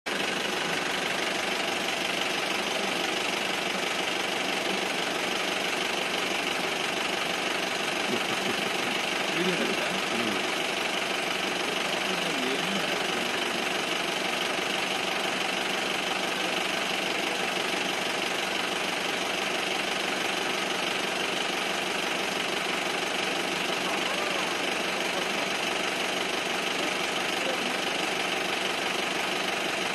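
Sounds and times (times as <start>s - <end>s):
vehicle engine idling: 0.1s - 29.9s.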